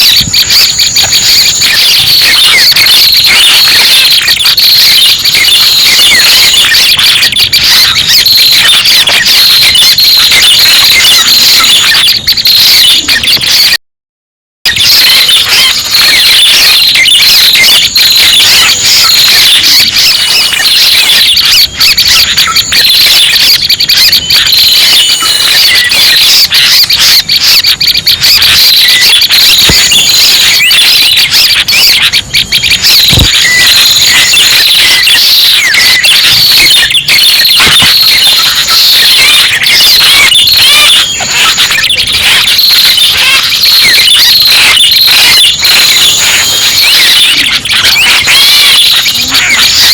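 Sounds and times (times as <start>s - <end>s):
recorded bird chatter: 0.0s - 13.8s, 14.7s - 49.9s.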